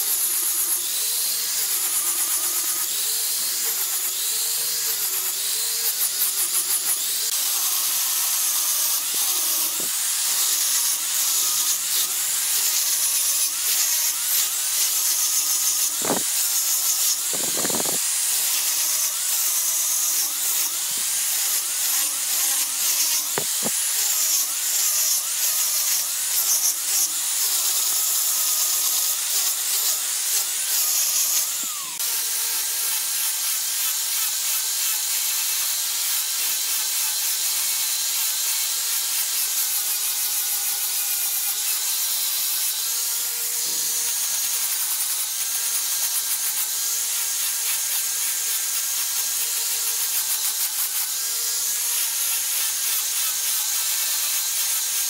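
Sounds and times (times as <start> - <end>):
angle grinder sanding wood: 0.0 - 55.0.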